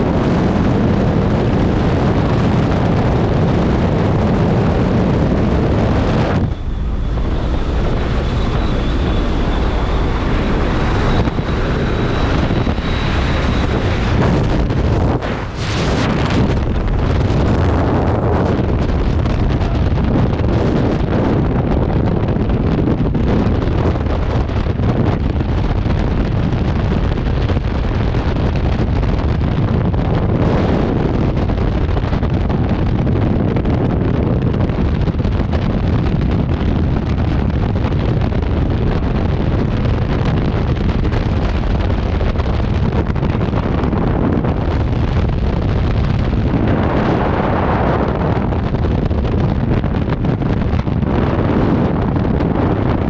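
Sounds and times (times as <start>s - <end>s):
wind roaring over microphone: 0.0s - 53.0s.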